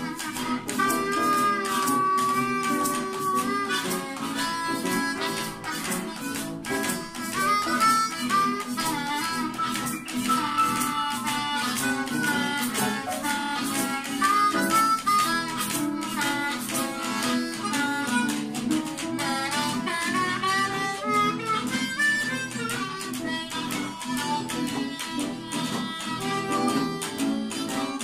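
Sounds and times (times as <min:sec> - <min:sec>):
blues harmonica: 0:00.0 - 0:28.0.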